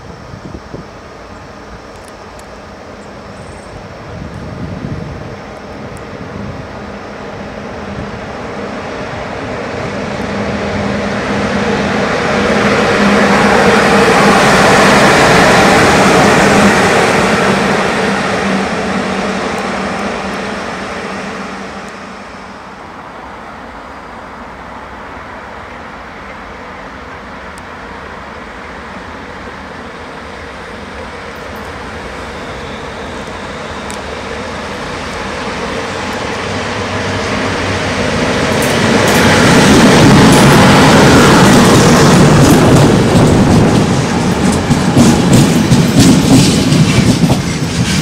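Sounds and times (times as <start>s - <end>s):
electric locomotive passing: 0.0s - 48.0s.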